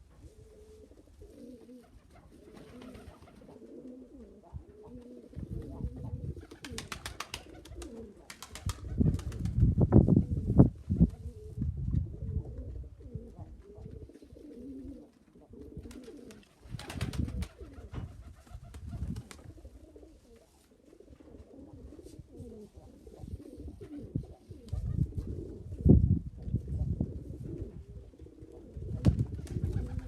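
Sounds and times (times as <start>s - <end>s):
pigeons cooing: 0.2s - 9.3s, 12.2s - 18.2s, 19.0s - 26.0s, 27.1s - 30.0s.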